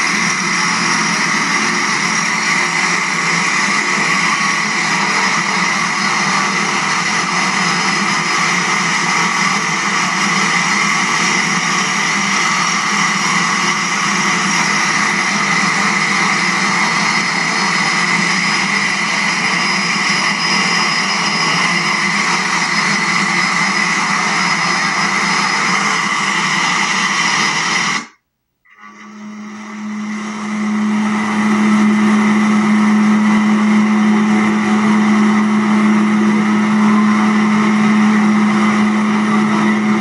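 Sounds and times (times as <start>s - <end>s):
turboprop engines running: 0.0s - 40.0s.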